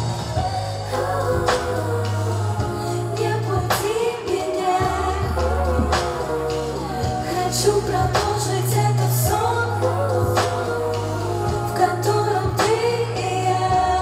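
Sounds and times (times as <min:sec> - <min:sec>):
slow pop backing track: 0:00.0 - 0:14.0
woman singing into a microphone: 0:00.0 - 0:14.0.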